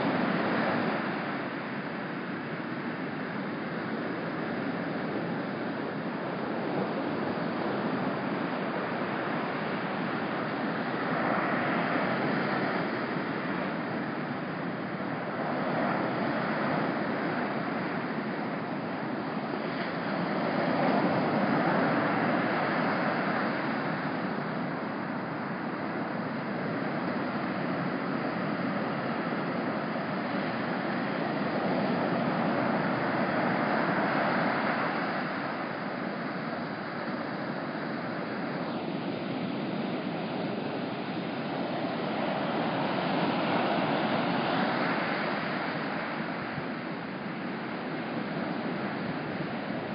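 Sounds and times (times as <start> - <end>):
ocean surf breaking on beach: 0.0 - 49.9.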